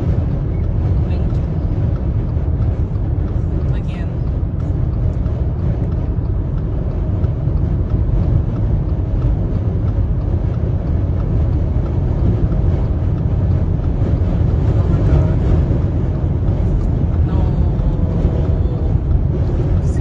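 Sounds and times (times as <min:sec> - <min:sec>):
road and engine noise: 0:00.0 - 0:20.0
wind buffeting car: 0:00.0 - 0:20.0.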